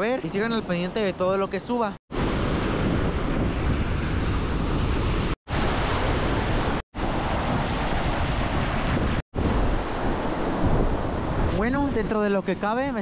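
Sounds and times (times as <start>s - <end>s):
wind buffeting microphone: 0.0s - 13.0s
sea surf breaking: 2.1s - 13.0s.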